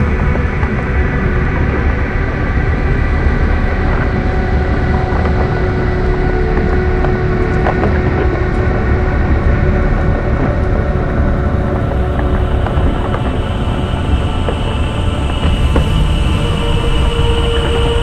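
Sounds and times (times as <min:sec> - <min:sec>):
deep rumble: 0:00.0 - 0:18.0
low droning tones: 0:00.0 - 0:18.0.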